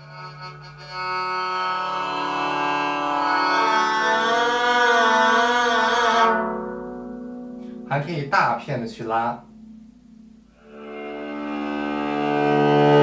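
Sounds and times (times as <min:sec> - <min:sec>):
bowed zither string tone: 0:00.0 - 0:13.0.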